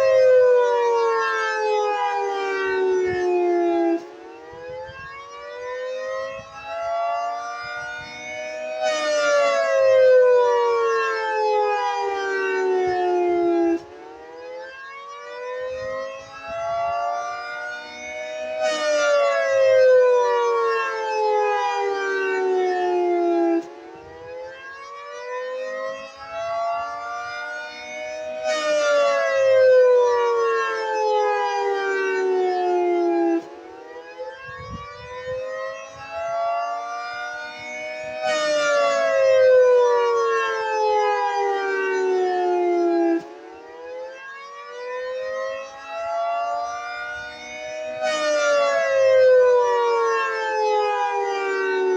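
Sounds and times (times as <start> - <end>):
rising and falling warning siren: 0.0 - 51.9.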